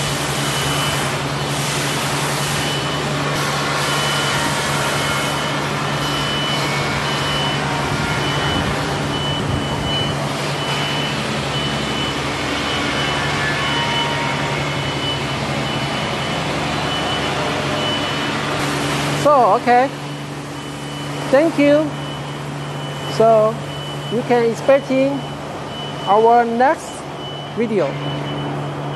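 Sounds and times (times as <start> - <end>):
machine hum and whir: 0.0 - 28.9.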